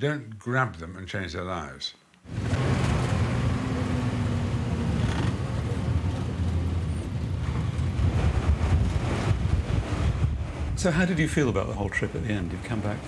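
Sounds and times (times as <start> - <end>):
bus engine and road rumble: 2.3 - 13.0.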